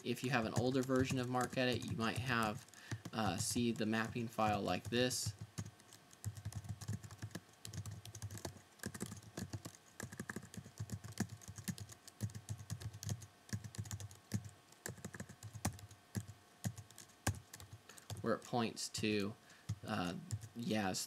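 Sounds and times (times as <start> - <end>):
typing on computer keyboard: 0.0 - 4.2, 5.2 - 18.2, 20.3 - 20.5.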